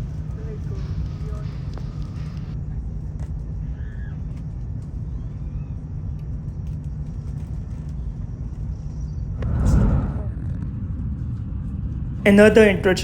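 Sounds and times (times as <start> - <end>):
train rumble inside cabin: 0.0 - 13.0.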